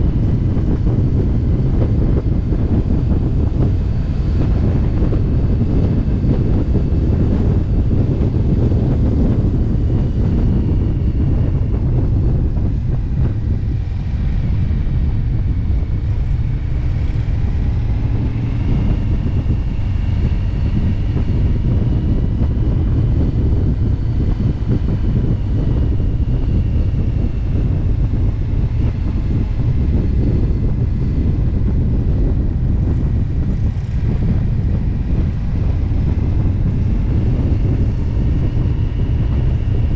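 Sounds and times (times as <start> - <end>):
motorcycle engine and road drone: 0.0 - 39.9
wind buffeting microphone: 0.0 - 39.9.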